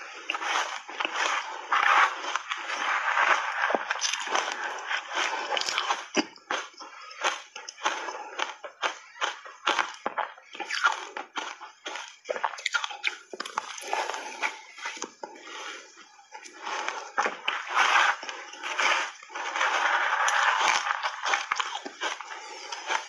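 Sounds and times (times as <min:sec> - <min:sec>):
crunching and chewing ice: 0:00.0 - 0:23.0.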